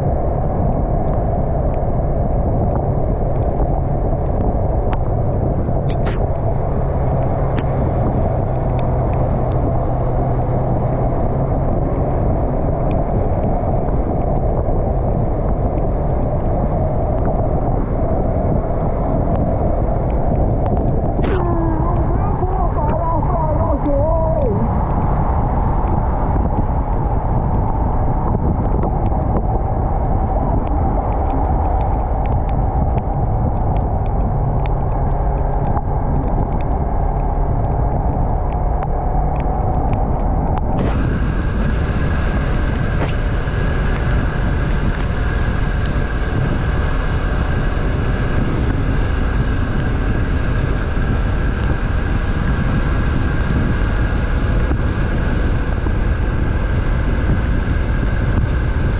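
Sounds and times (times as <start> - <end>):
wind rush on microphone: 0.0 - 58.9.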